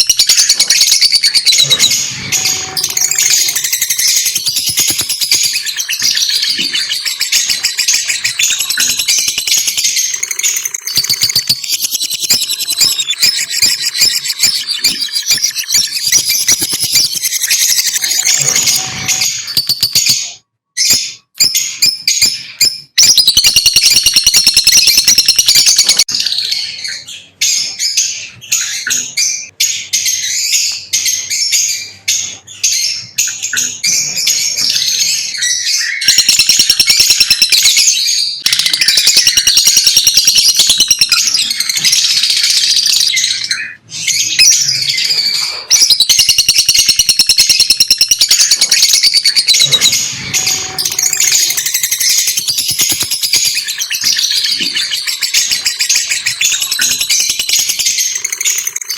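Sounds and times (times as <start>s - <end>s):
lovebirds chirping shrilly: 0.0s - 58.9s.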